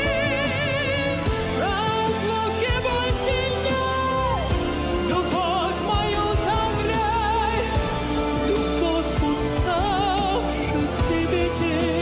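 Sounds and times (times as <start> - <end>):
pop ballad background music: 0.0 - 12.0.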